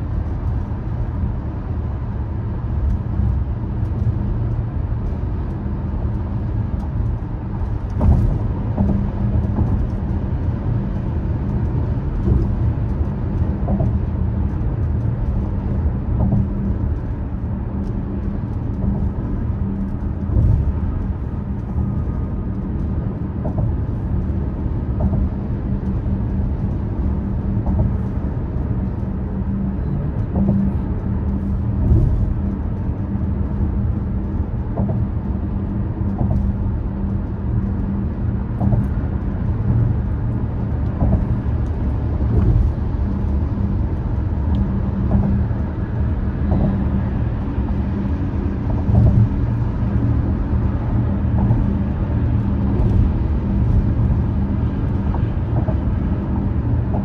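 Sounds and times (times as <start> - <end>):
tyre and road rumble: 0.0 - 57.0.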